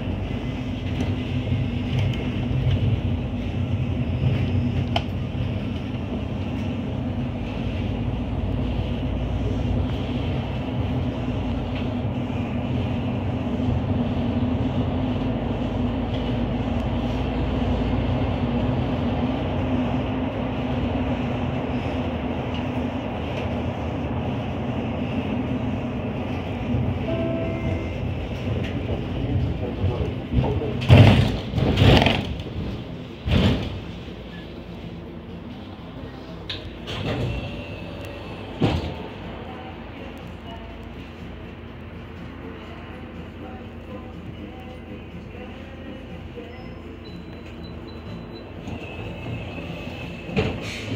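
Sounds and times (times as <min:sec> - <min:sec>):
bus drivetrain hum: 0:00.0 - 0:50.9
road and tyre noise: 0:00.0 - 0:50.9.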